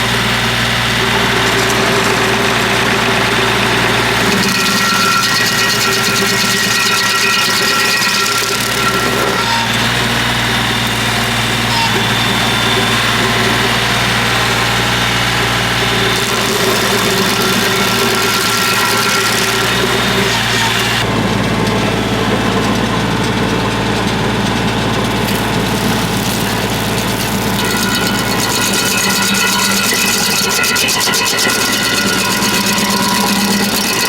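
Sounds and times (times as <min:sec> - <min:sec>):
diesel tractor engine running: 0:00.0 - 0:34.0
stump grinder: 0:00.0 - 0:34.0.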